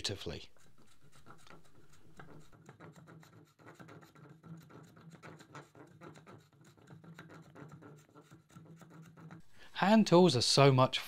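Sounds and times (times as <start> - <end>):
spokeshave scraping wood: 0.4 - 9.7.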